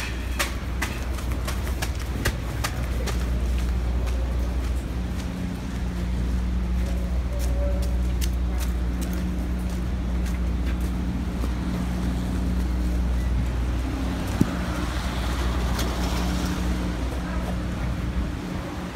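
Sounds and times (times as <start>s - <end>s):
idling engines hum: 0.0s - 18.9s.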